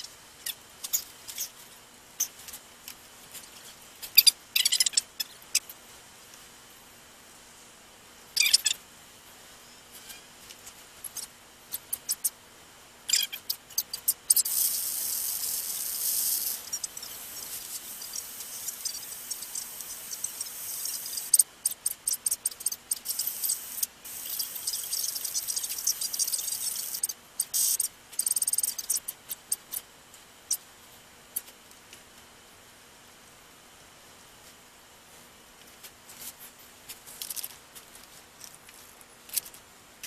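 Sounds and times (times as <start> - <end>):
radio static hiss and crackle: 0.0 - 40.0.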